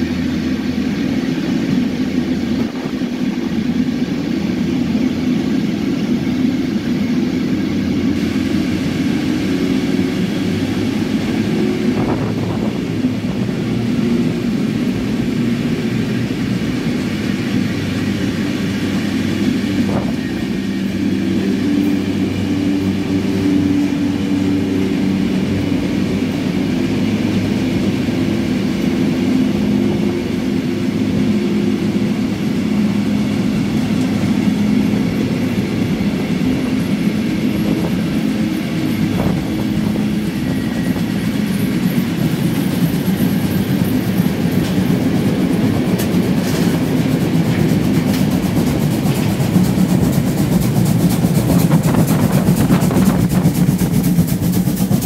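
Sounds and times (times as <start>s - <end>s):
steam locomotive rumbling: 0.0s - 55.0s
steam rushing: 0.0s - 55.0s
wheels on rail: 0.0s - 55.0s.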